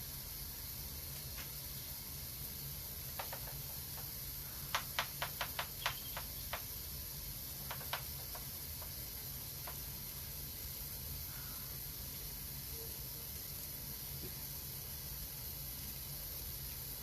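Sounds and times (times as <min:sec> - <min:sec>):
water mist spraying: 0:00.0 - 0:17.0.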